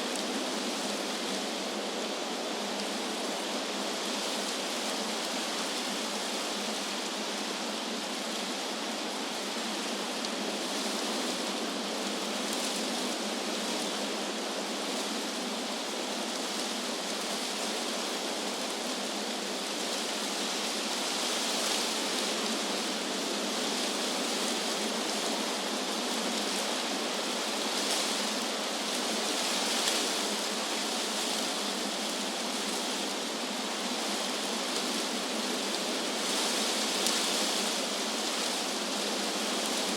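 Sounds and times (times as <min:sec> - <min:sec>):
wind through trees: 0:00.0 - 0:39.9.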